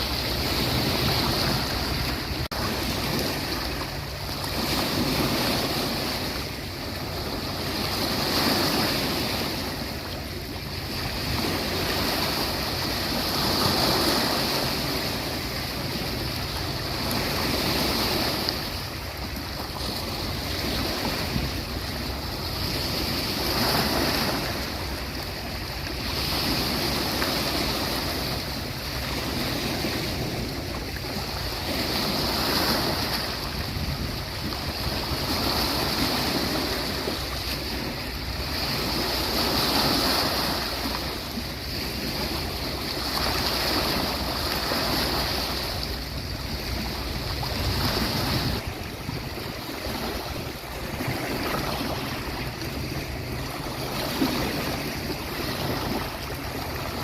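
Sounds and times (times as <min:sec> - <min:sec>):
waves washing onto beach: 0:00.0 - 0:57.0.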